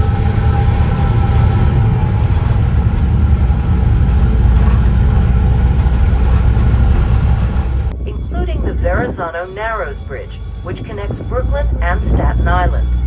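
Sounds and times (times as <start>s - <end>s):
faint tonal hum: 0.0s - 13.0s
ferry engines low rumble: 0.0s - 13.0s.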